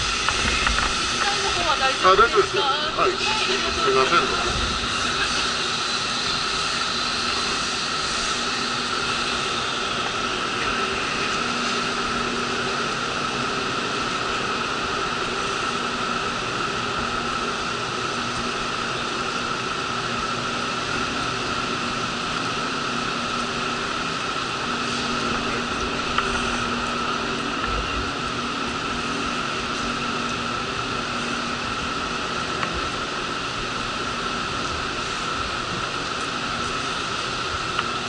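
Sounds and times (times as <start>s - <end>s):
constant high whine: 0.0s - 38.0s
diesel railcar engine idling: 0.0s - 38.0s.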